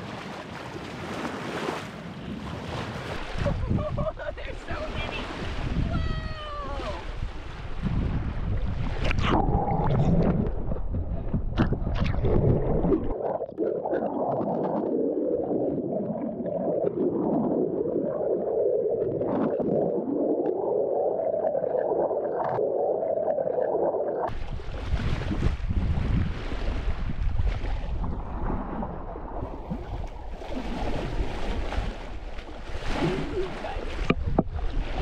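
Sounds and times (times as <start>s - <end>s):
muffled gurgling water: 3.2s - 35.0s.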